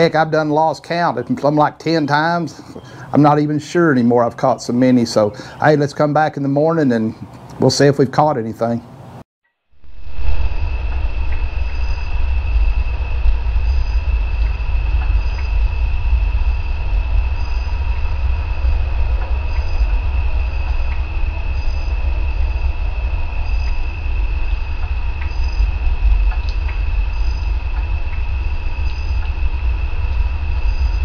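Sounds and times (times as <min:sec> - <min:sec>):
high-pitched whine: 0:00.0 - 0:07.0, 0:09.7 - 0:31.0
low rumble and hiss: 0:00.0 - 0:09.2, 0:09.8 - 0:31.0.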